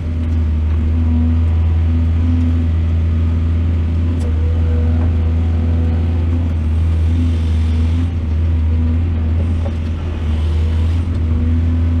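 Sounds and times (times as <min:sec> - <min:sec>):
excavator diesel engine droning: 0:00.0 - 0:12.0.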